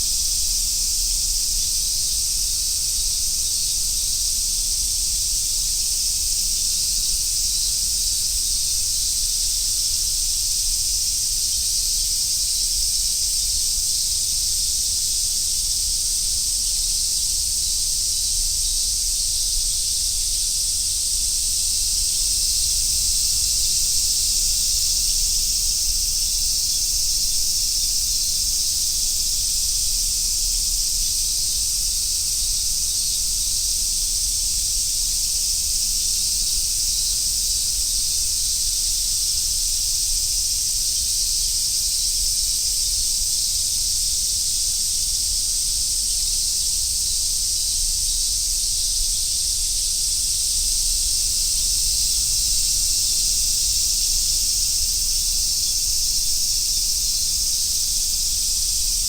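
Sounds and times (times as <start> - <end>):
cicadas chorus: 0.0 - 59.0.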